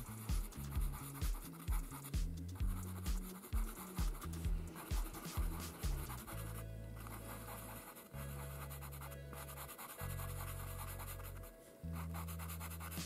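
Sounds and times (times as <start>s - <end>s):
pastel pencil scratching on paper: 0.0s - 13.0s
soft background music: 0.0s - 13.0s.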